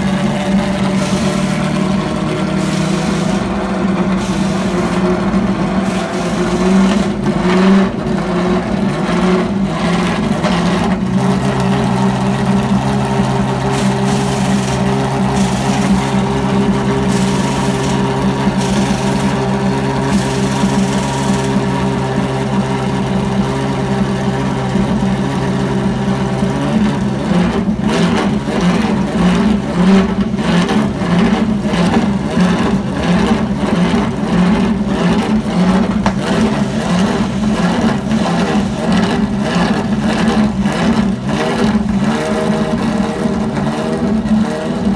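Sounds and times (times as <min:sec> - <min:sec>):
race car engine idling: 0:00.0 - 0:44.9.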